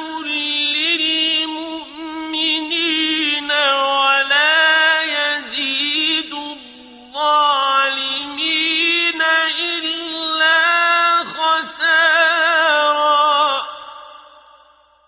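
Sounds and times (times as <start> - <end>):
solo voice chanting recitation: 0.0 - 14.8.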